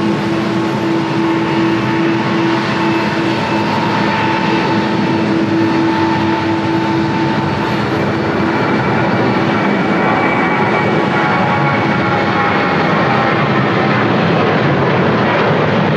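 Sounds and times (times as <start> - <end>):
jet engines roaring with whine: 0.0 - 15.9.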